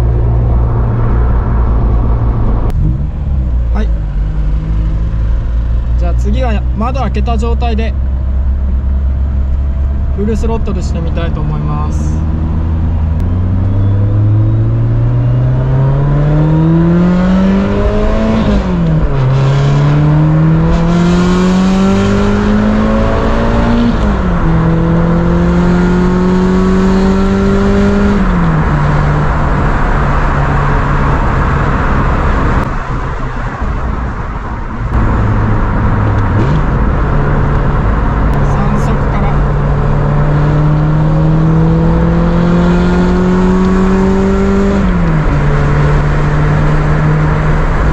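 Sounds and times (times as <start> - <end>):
car engine accelerating: 0.0 - 47.9
wind and road noise: 0.0 - 47.9.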